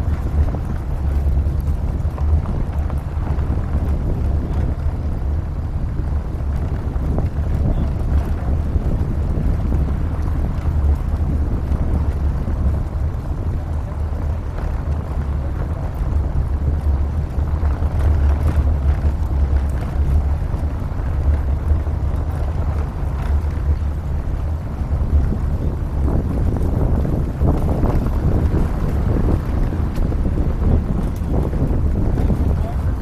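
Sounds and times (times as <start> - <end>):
truck driving low rumble: 0.0 - 33.0
wind buffeting microphone: 0.0 - 33.0.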